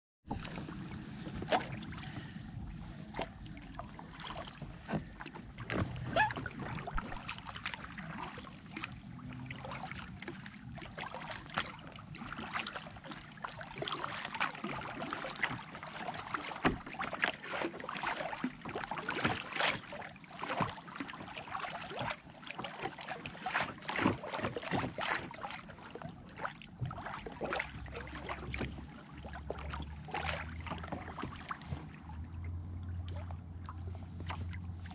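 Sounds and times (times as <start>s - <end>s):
water lapping against a hull: 0.2s - 34.9s.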